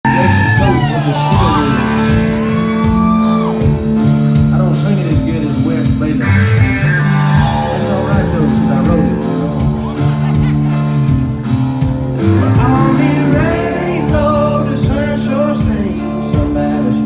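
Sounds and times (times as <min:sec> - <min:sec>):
country-rock band playing live: 0:00.0 - 0:17.0.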